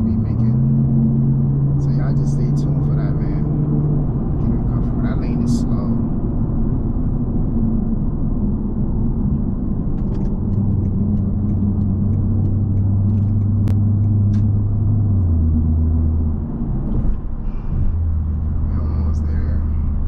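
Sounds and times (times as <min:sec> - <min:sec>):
car exhaust droning: 0:00.0 - 0:20.0.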